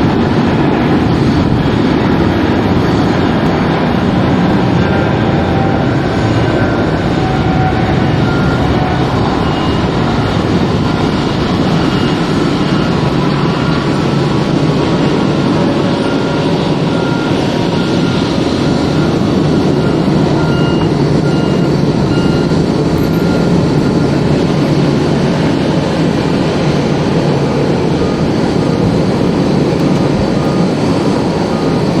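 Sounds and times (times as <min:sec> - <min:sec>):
jet engines rumbling: 0:00.0 - 0:32.0
wind buffeting microphone: 0:00.0 - 0:32.0.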